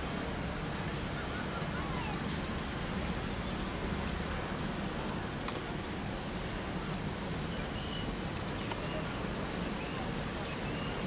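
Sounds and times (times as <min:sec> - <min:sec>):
outdoor background hum and hiss: 0:00.0 - 0:11.0.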